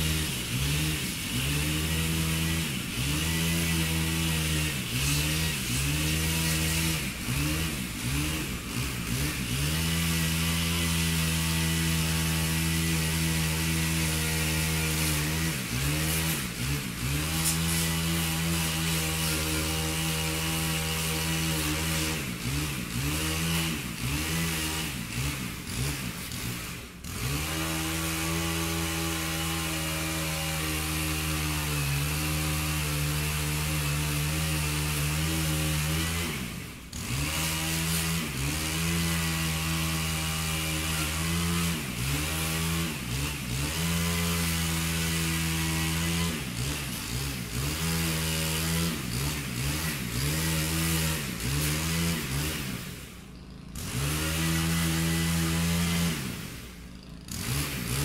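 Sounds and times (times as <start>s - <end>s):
chainsaw running: 0.0s - 58.0s.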